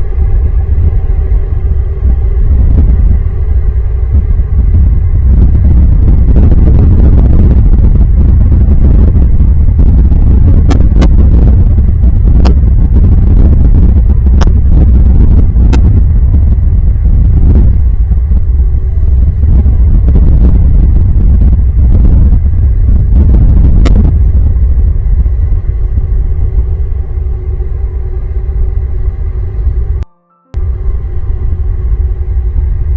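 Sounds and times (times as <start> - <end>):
low rumble: 0.0 - 32.9.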